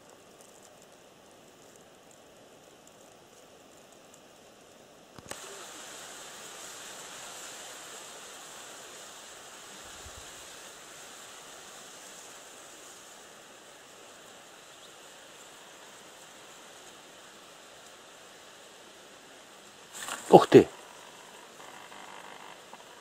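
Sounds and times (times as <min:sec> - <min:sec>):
soft outdoor hiss: 0:00.0 - 0:23.0.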